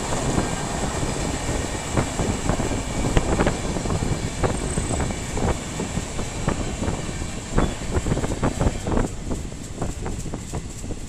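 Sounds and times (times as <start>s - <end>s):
passing train: 0.0s - 11.0s
train running noise: 0.0s - 11.0s
wheels clicking over track: 0.0s - 11.0s.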